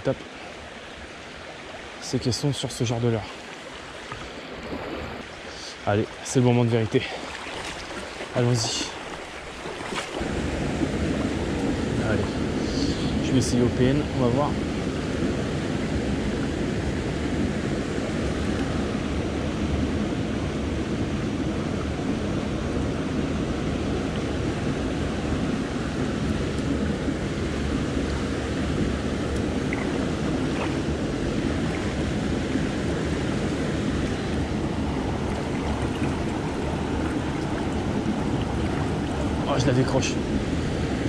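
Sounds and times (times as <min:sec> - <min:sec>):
stream rushing over stones: 0:00.0 - 0:20.0, 0:23.6 - 0:41.0.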